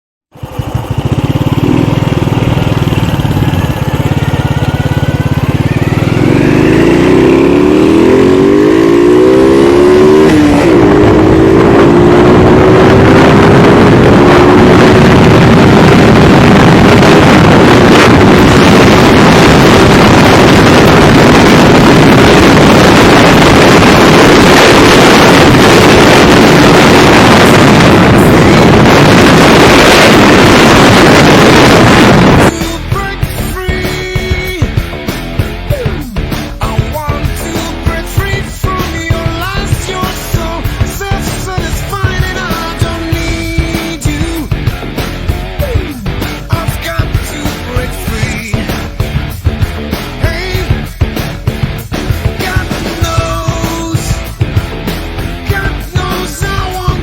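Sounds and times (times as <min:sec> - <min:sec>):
rushing noise: 0:00.3 - 0:57.0
vehicle engine accelerating: 0:00.3 - 0:57.0.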